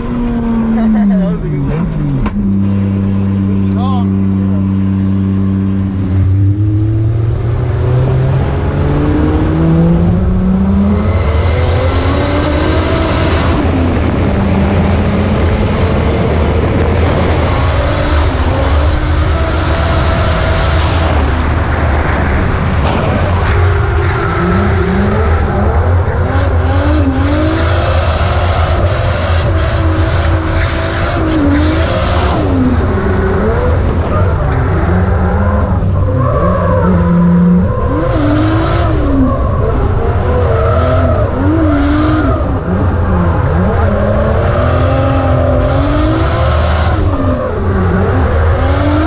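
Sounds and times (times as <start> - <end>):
car engine revving: 0.0 - 49.0
road and wind noise: 0.0 - 49.0.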